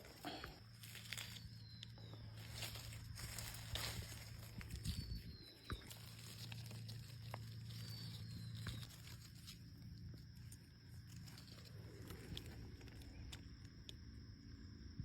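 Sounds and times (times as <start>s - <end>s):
footsteps on leaves: 0.0s - 13.3s
rustling in dry leaves: 0.0s - 14.6s.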